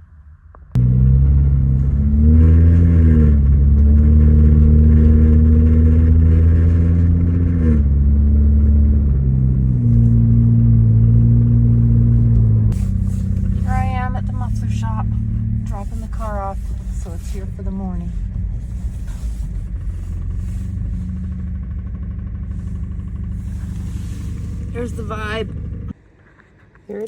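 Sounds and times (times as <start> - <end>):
car engine revving: 0.8 - 26.0.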